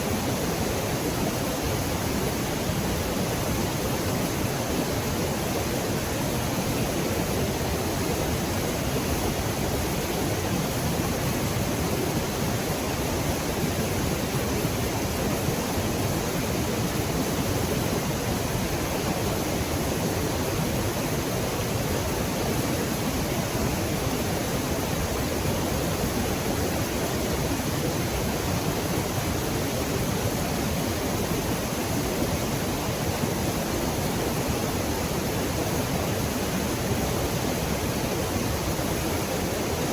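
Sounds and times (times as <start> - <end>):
river and waterfall rushing: 0.0 - 39.9.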